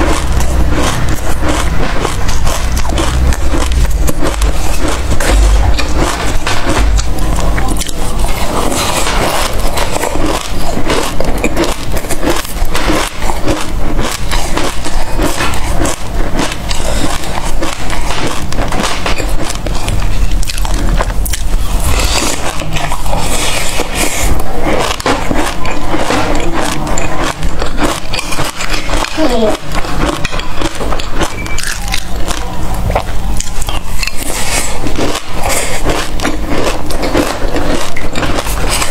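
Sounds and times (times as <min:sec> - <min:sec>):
chewing seeds: 0:00.0 - 0:38.9.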